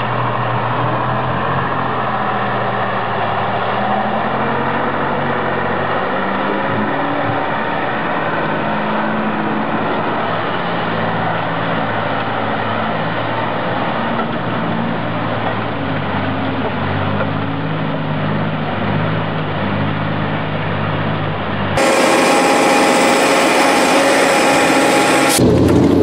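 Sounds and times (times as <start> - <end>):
truck engine running under load: 0.0 - 26.0.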